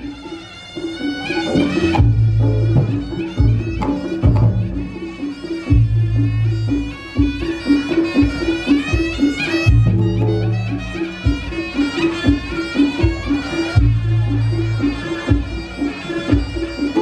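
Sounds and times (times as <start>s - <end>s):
drum strokes: 0.0s - 17.0s
shrill shawm melody: 0.0s - 17.0s.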